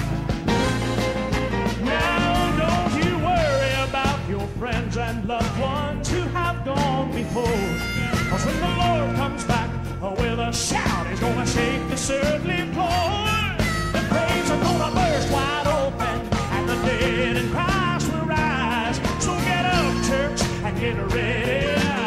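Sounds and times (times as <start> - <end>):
bass guitar: 0.0 - 22.0
drums: 0.0 - 22.0
voices singing: 1.6 - 22.0.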